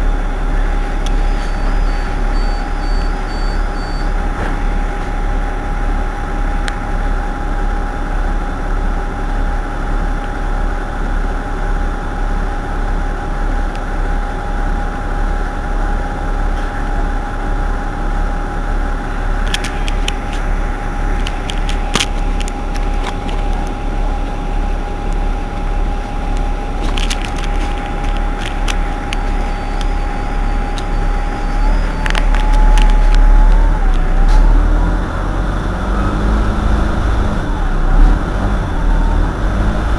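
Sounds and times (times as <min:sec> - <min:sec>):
bus engine idling: 0:00.0 - 0:39.9
high whine: 0:00.0 - 0:39.9.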